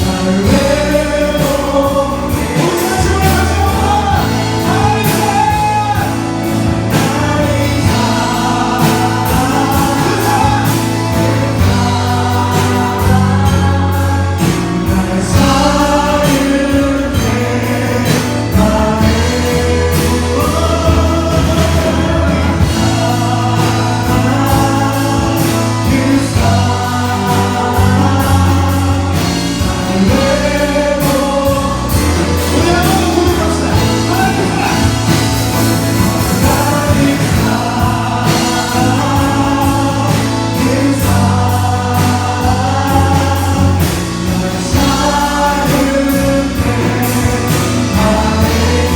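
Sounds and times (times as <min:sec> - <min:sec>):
group singing praise song: 0:00.0 - 0:48.9
live band playing: 0:00.0 - 0:48.9.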